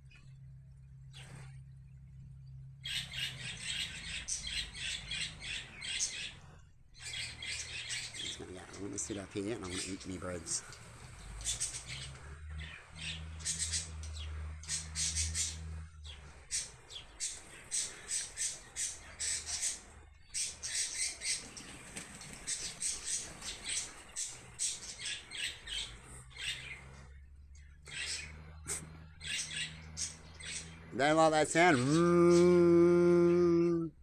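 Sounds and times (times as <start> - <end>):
birds squawking and chirping: 0.0 - 34.0
low steady hum: 0.0 - 34.0.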